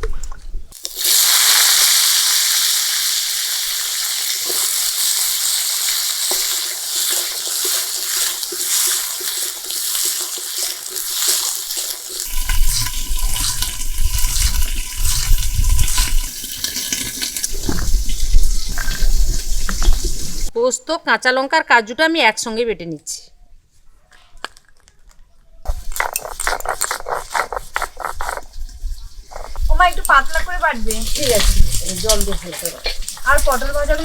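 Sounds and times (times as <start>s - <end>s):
vegetables sizzling in hot oil: 0.8s - 20.5s, 25.7s - 34.0s.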